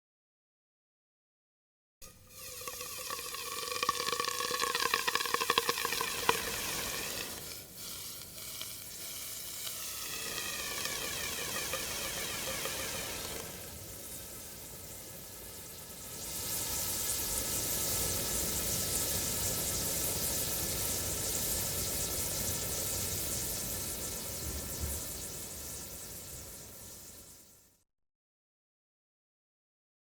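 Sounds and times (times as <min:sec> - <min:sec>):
water bubbling and fizzing: 0:02.0 - 0:27.3.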